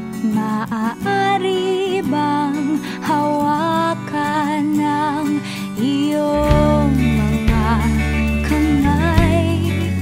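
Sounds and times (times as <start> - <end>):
song with person singing: 0.4 - 10.0.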